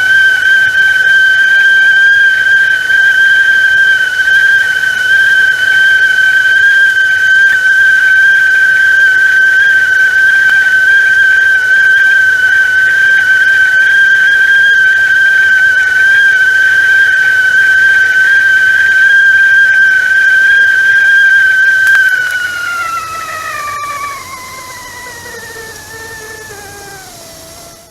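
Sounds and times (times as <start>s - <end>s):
tea kettle whistling: 0.0s - 27.9s.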